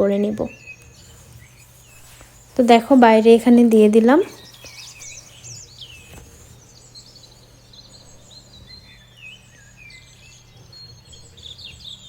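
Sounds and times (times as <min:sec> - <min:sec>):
faint low hum: 0:00.0 - 0:12.0
small songbirds chirping: 0:00.0 - 0:12.0.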